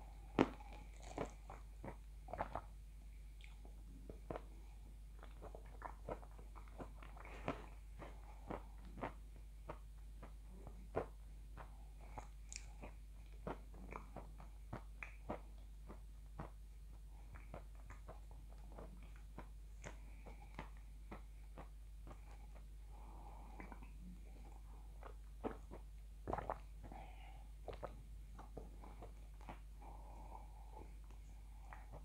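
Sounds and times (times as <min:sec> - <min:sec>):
person chewing with mouth clicks: 0:00.1 - 0:32.0.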